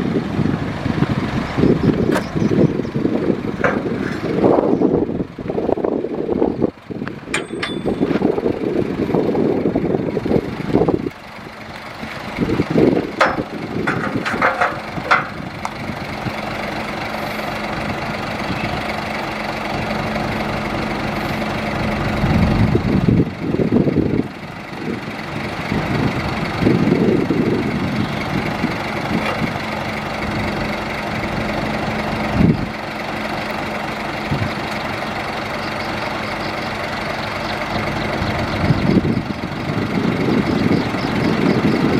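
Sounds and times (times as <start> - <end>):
heavy machine diesel engine running: 0.0 - 41.9.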